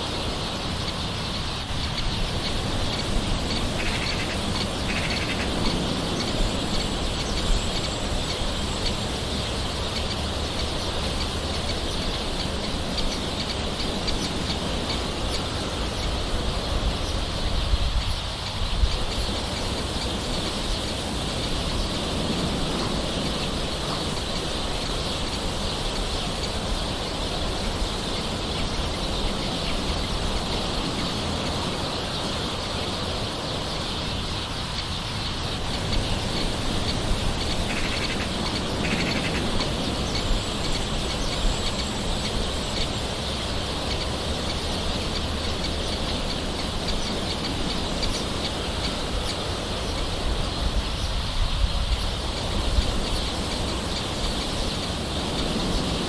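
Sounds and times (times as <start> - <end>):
birds calling: 0.0 - 56.0
high-pitched insect chorus: 0.0 - 56.0.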